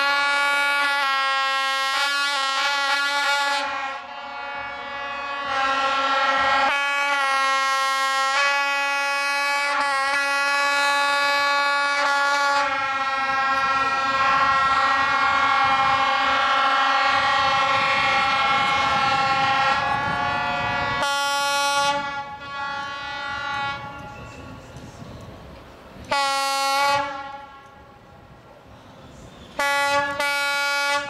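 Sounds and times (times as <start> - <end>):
locomotive horn: 0.0 - 24.3, 26.1 - 28.0, 29.5 - 31.0
diesel locomotive rumbling: 0.0 - 31.0.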